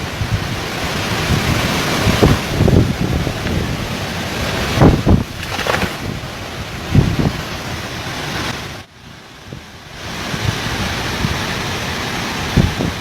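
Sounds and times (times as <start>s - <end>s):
wind buffeting microphone: 0.0s - 8.1s, 9.4s - 13.0s
storm wind with rain: 0.0s - 13.0s.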